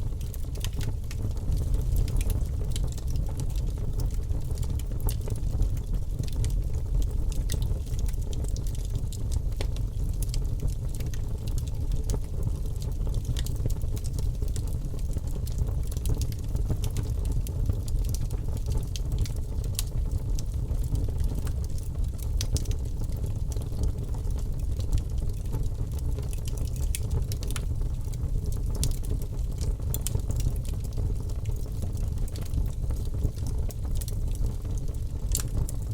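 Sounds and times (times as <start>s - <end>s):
fire burning: 0.0s - 35.9s
fire crackling and popping: 0.0s - 35.9s.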